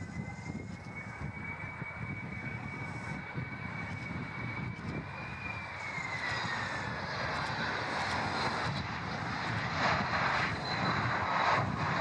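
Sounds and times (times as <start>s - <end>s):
jet engines whining: 0.0s - 12.0s
wind rumbling on microphone: 0.0s - 12.0s.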